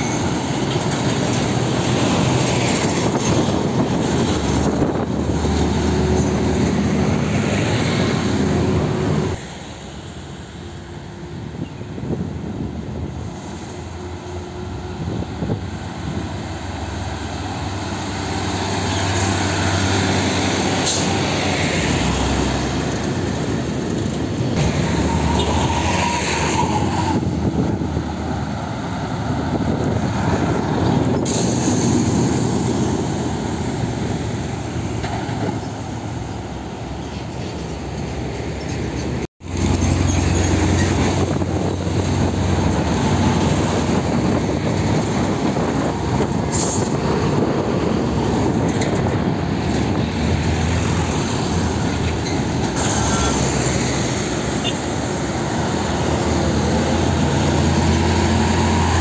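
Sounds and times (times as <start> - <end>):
diesel trucks passing: 0.0 - 59.0.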